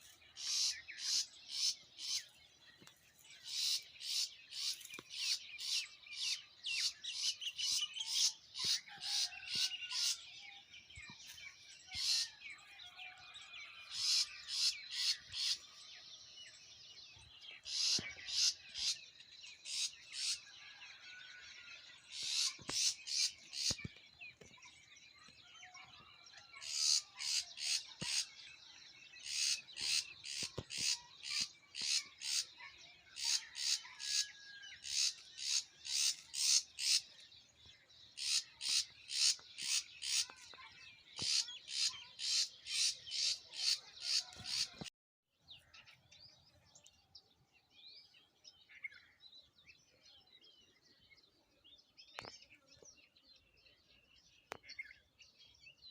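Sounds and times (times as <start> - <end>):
birds chirping sharply: 0.0 - 44.9.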